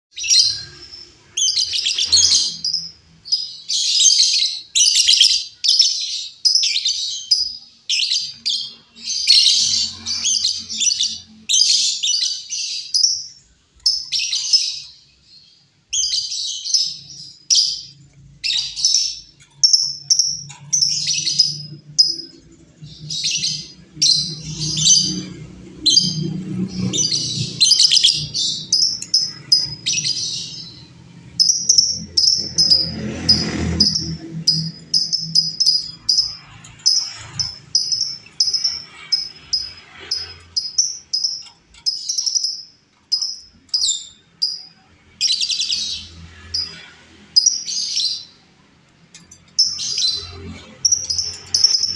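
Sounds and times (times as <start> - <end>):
lovebird chattering chirps: 0.1 - 15.0, 15.9 - 48.4, 49.1 - 51.9.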